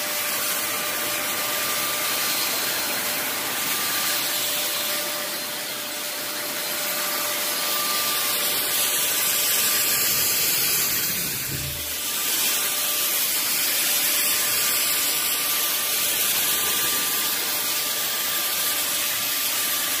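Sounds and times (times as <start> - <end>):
fogger blower hissing: 0.0 - 20.0
motor whine: 0.2 - 19.6.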